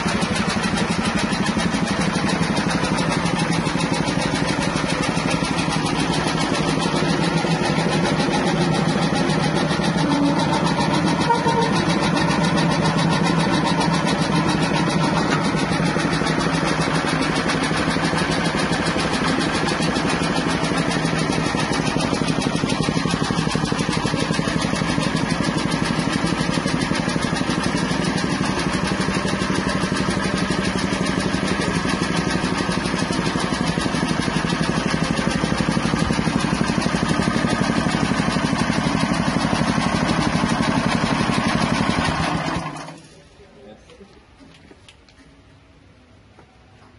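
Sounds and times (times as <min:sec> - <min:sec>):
small petrol engine running: 0:00.0 - 0:43.2.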